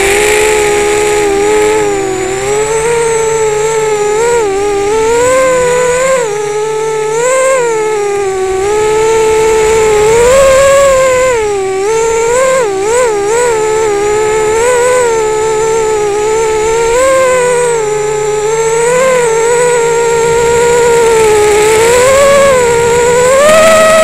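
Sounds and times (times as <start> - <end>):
drone motors and propellers whining: 0.0 - 24.0.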